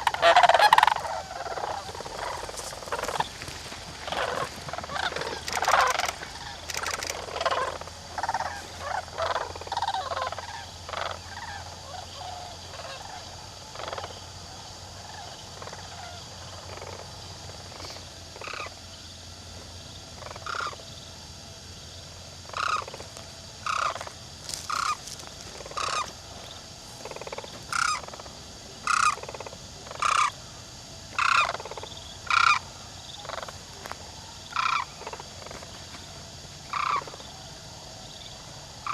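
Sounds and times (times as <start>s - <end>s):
flock of large birds calling: 0.0s - 18.8s, 20.2s - 20.9s, 22.4s - 36.0s, 36.6s - 38.9s.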